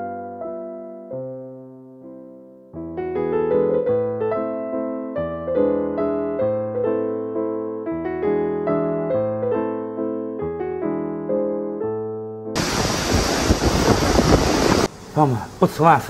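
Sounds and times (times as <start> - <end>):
gentle piano music: 0.0 - 14.9.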